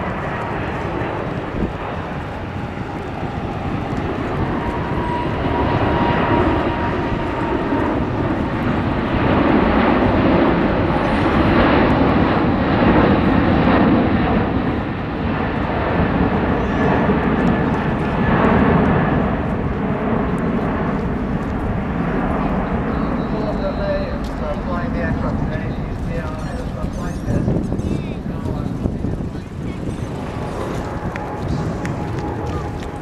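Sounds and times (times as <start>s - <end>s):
jet airliner flyby: 0.0s - 33.0s.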